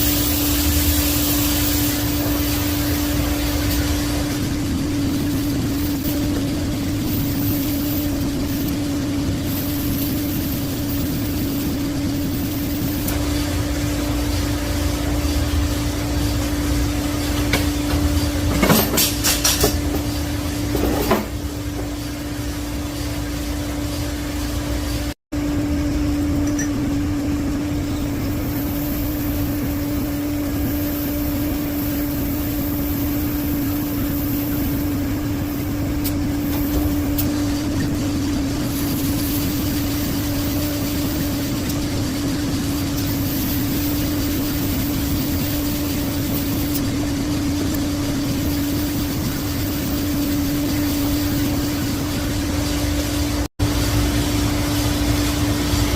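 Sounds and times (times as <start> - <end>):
shop machinery humming: 0.0 - 55.9.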